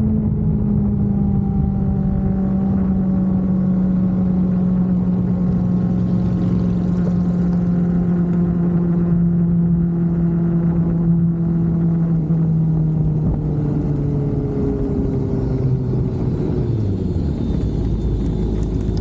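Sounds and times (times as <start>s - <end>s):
motorcycle engine droning: 0.0s - 19.0s
wind rumble: 0.0s - 19.0s.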